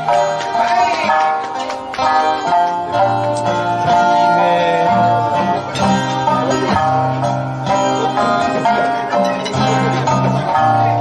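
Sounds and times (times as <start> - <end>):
plucked lute melody: 0.0 - 11.0
strummed acoustic guitar: 0.0 - 11.0.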